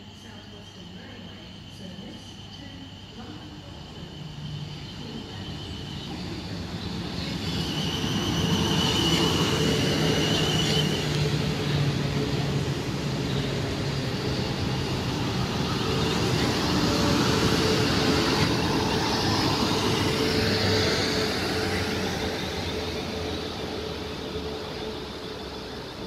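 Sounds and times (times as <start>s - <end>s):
train wheels rumbling on rail: 3.2s - 26.0s.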